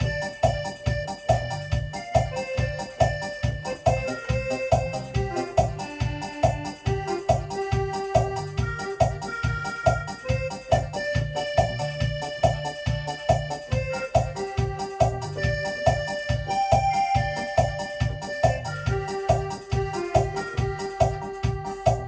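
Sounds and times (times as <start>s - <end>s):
electronic organ melody: 0.0s - 22.0s
rhythm accompaniment beat: 0.0s - 22.0s.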